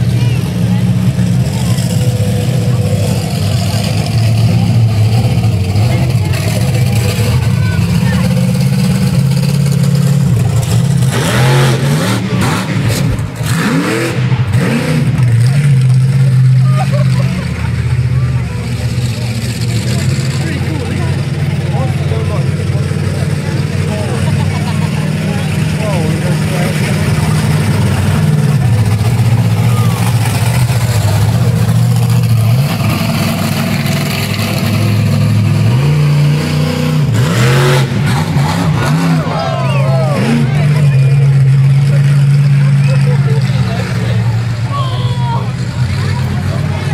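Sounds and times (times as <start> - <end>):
engine revving and idling: 0.0 - 46.9.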